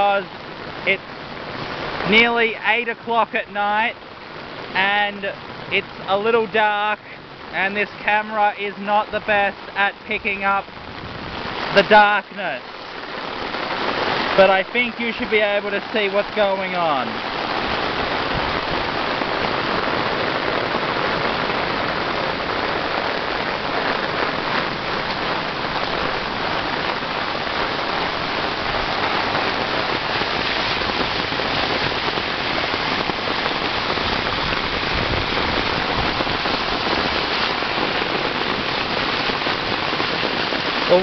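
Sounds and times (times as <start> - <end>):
floodwater rushing: 0.0 - 41.0
heavy rain pouring: 0.0 - 41.0.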